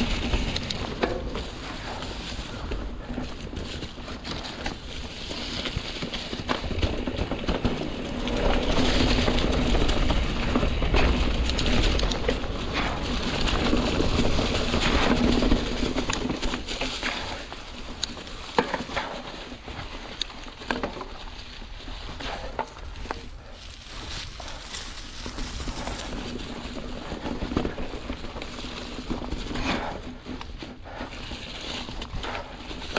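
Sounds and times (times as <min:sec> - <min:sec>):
bike clicks and rattles: 0:00.0 - 0:32.9
tyres crunching through dry leaves: 0:00.0 - 0:32.9.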